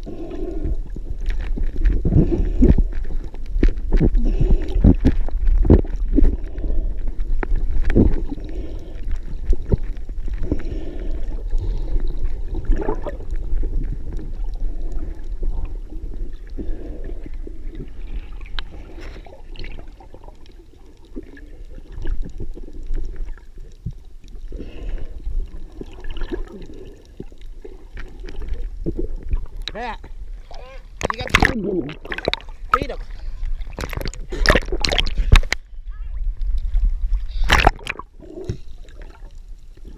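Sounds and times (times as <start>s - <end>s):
muffled water sloshing: 0.0s - 39.9s.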